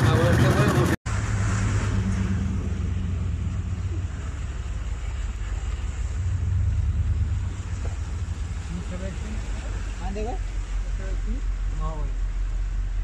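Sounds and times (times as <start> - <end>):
car engine and road rumble: 0.0 - 13.0
water hiss: 1.2 - 13.0.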